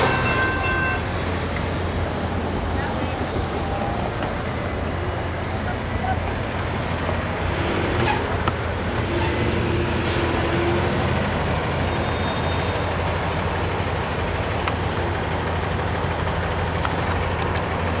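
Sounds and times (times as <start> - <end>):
diesel engine hum: 0.0 - 18.0
tyre noise of passing cars: 0.0 - 18.0.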